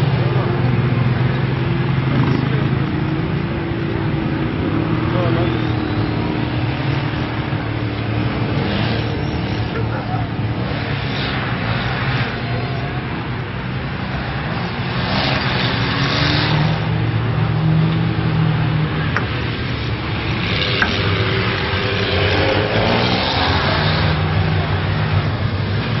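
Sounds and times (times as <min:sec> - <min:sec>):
off-road vehicle engines revving: 0:00.0 - 0:26.0.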